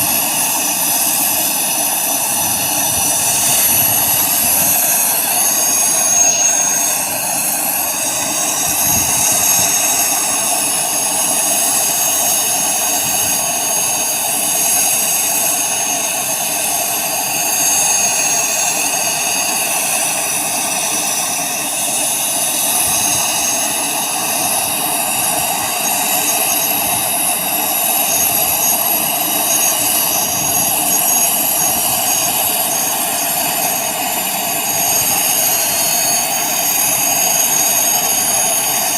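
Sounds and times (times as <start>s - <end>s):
helicopter turbine engines running: 0.0s - 38.9s.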